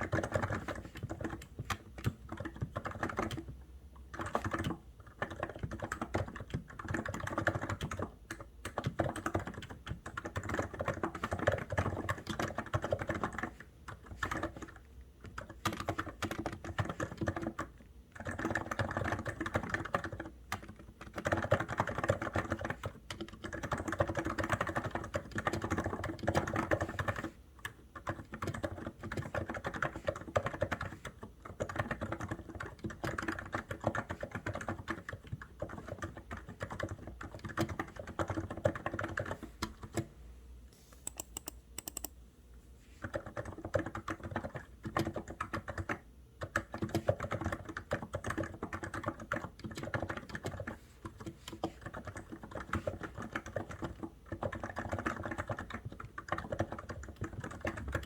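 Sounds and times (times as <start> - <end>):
mechanical keyboard typing: 0.0 - 40.1, 41.0 - 42.2, 43.0 - 58.0.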